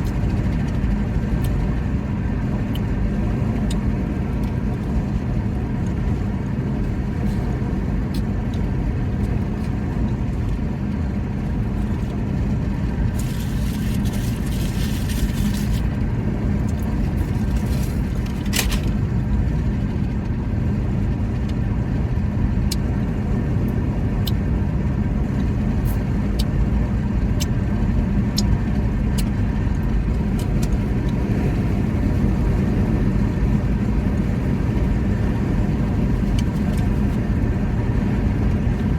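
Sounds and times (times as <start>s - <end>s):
faint constant hum: 0.0s - 38.9s
vehicle engine rumble: 0.0s - 38.9s.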